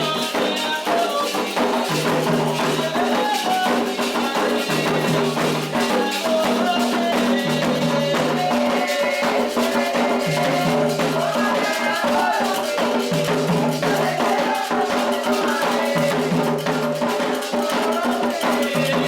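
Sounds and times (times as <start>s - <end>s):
hand drums playing: 0.0s - 19.0s
shaken rattles: 0.0s - 19.0s
voices singing a chant: 0.0s - 19.0s.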